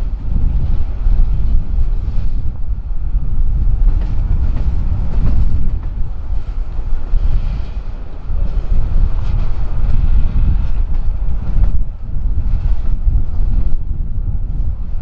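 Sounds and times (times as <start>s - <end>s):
freight train rumbling: 0.0s - 15.0s
wind buffeting microphone: 0.0s - 15.0s.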